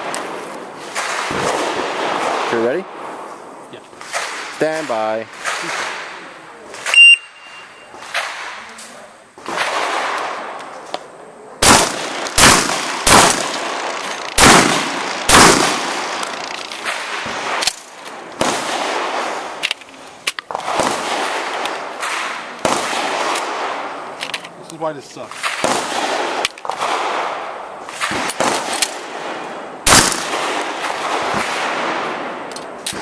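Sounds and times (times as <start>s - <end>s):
shotgun shots: 0.8s - 3.0s, 4.0s - 8.7s, 9.4s - 10.6s, 11.6s - 19.6s, 20.5s - 24.2s, 25.3s - 33.0s.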